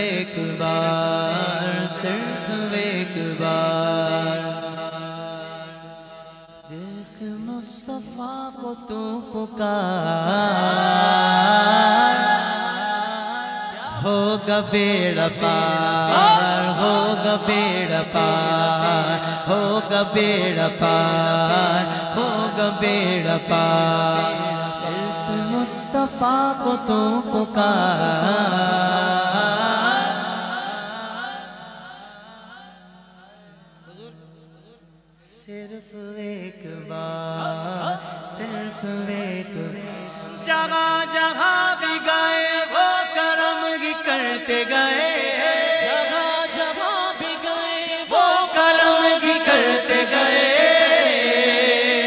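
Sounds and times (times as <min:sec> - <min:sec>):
man singing into a microphone: 0:00.0 - 0:52.0.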